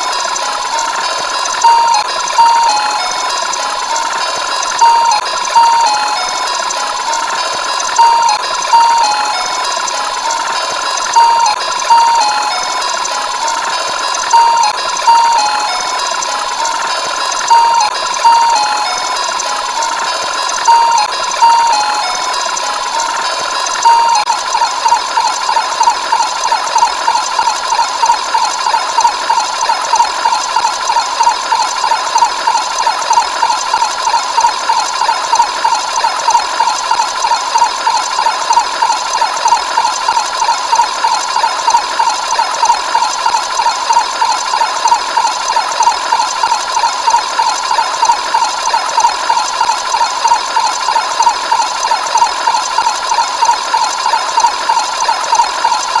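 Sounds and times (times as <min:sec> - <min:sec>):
pulsing buzzing alarm tone: 0:00.0 - 0:56.0.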